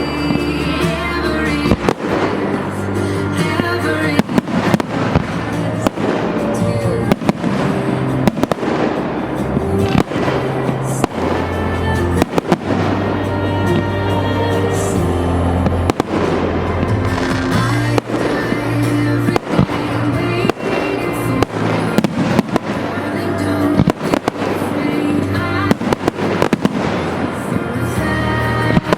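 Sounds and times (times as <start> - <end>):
fireworks bursting: 0.0 - 28.9
music playing: 0.0 - 28.9.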